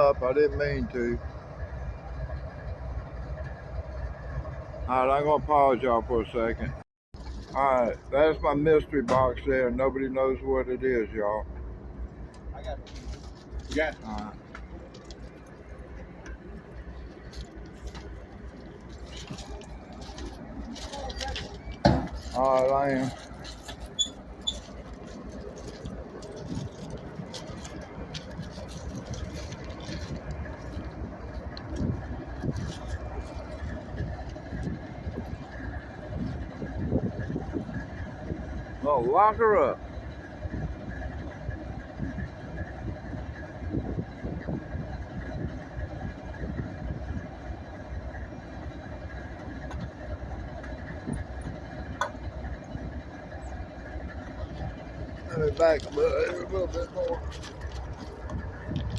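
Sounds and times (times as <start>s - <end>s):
diesel locomotive rumble: 0.0s - 58.9s
engine idling: 0.0s - 58.9s.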